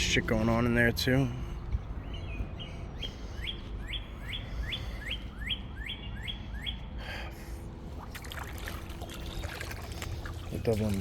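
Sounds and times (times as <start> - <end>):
songbird singing: 0.0 - 7.4, 8.0 - 11.0.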